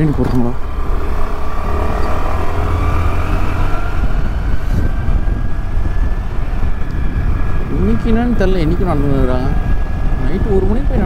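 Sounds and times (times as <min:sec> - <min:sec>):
wind rumble on microphone: 0:00.0 - 0:11.0
faint rising whine: 0:00.5 - 0:10.7.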